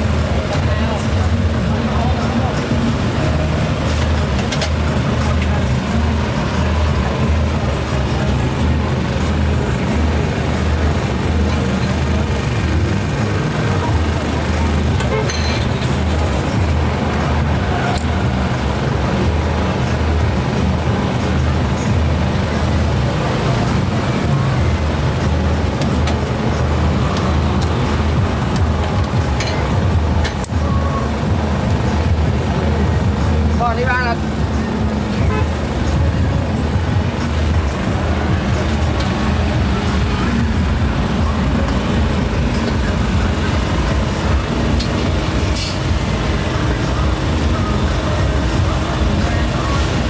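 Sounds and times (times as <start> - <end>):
background voices: 0.0 - 50.0
road traffic hum: 0.0 - 50.0.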